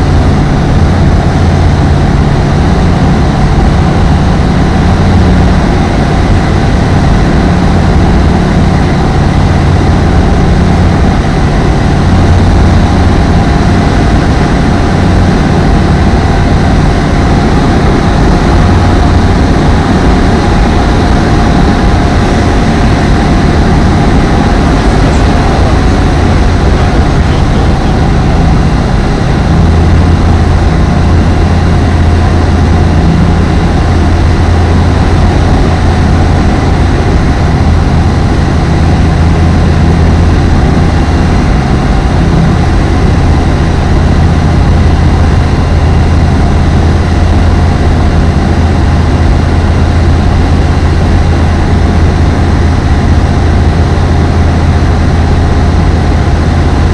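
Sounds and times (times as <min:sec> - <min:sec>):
light aircraft engine and propeller: 0:00.0 - 0:56.9.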